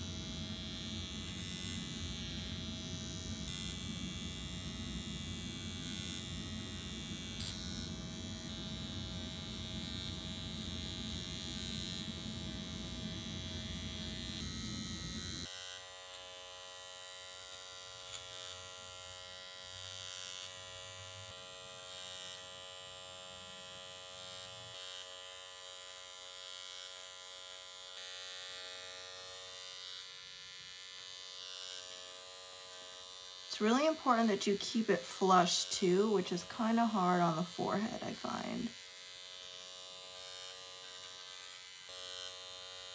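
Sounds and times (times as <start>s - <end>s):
electric microneedling pen buzzing: 0.0s - 42.9s.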